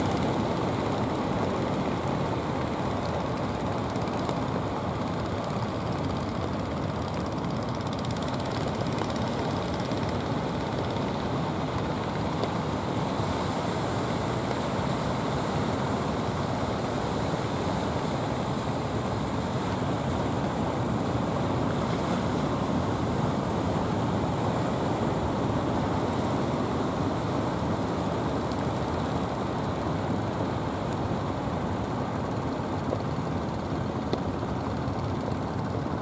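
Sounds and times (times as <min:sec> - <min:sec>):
wind: 0:00.0 - 0:36.0.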